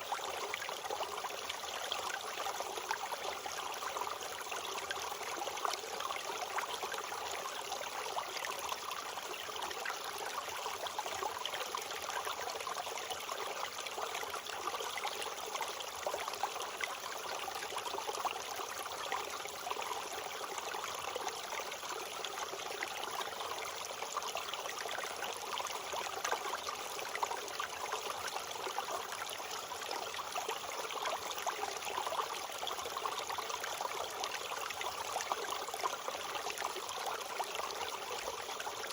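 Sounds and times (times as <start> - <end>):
stream water rushing and trickling: 0.0 - 38.9.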